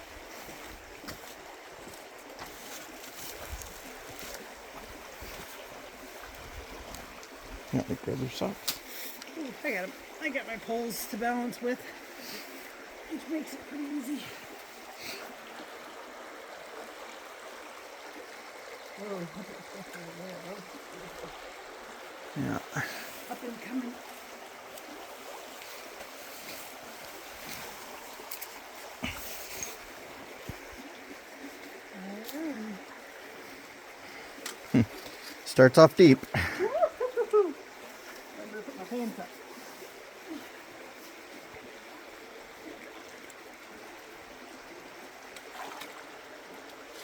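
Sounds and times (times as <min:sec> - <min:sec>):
river water flowing: 0:00.0 - 0:47.0.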